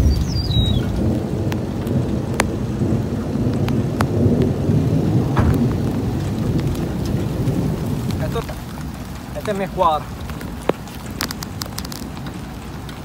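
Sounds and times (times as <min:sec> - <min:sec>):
thunder rumbling: 0:00.0 - 0:13.0.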